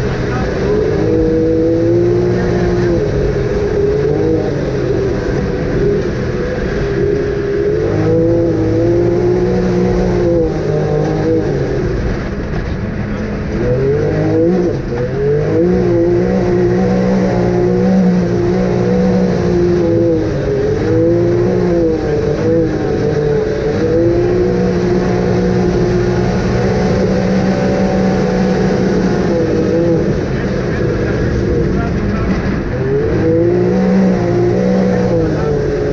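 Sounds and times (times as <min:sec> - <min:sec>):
off-road vehicle engine revving: 0:00.0 - 0:35.9.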